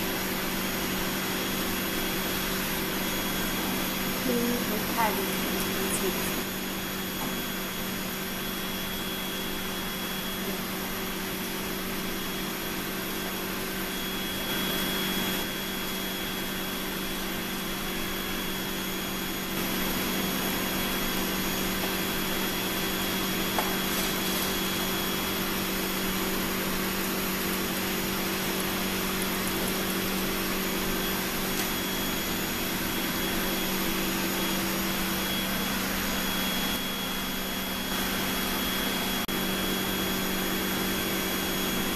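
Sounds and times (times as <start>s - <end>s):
faint high whine: 0.0s - 41.9s.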